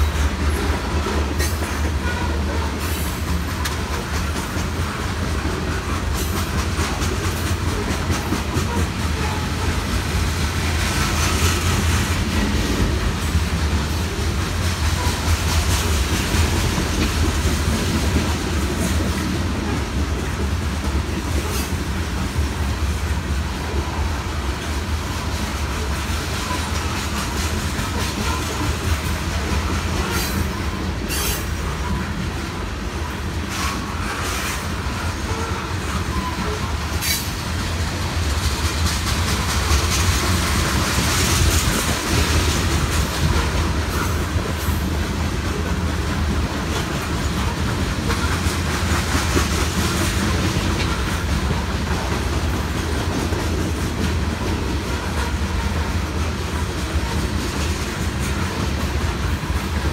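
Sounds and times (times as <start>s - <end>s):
clickety-clack over rail joints: 0.0s - 59.9s
train wheels rumbling on rail: 0.0s - 59.9s.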